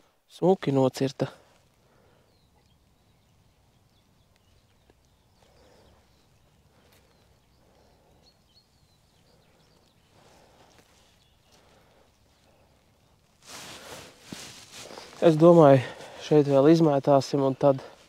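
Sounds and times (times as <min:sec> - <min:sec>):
faint bird chirps: 0:01.4 - 0:18.0.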